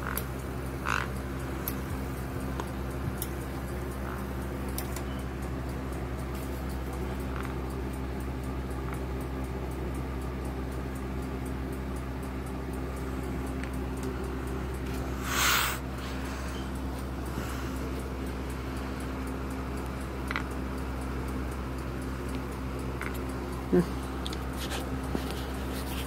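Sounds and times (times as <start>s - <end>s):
low hum: 0.0s - 26.0s
mechanical clock ticking: 0.0s - 26.0s.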